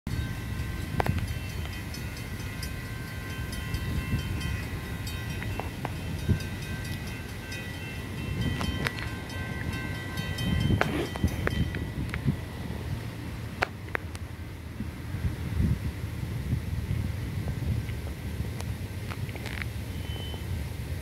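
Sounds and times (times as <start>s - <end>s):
distant train rumble: 0.1s - 21.0s.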